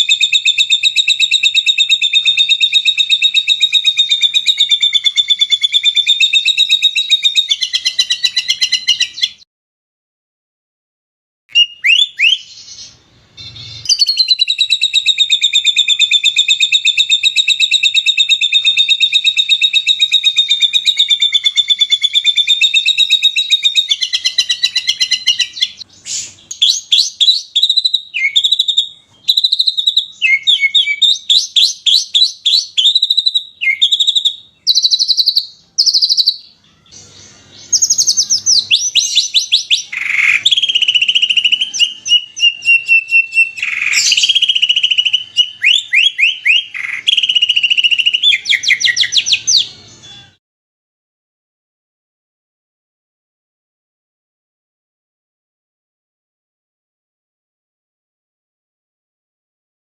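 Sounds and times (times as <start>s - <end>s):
songbird singing: 0.0s - 9.5s, 11.5s - 50.4s.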